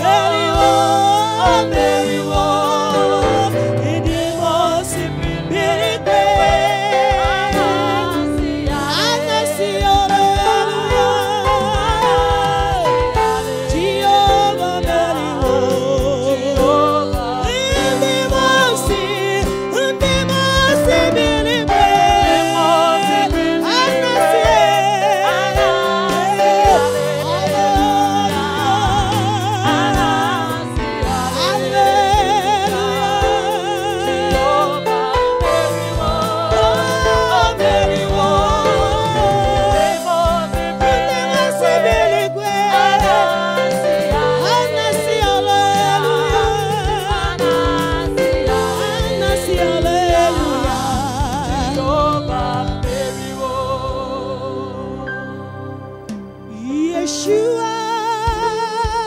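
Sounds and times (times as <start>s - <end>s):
band with bass and drums: 0.0s - 55.0s, 55.8s - 59.0s
gospel singing voices: 0.0s - 59.0s.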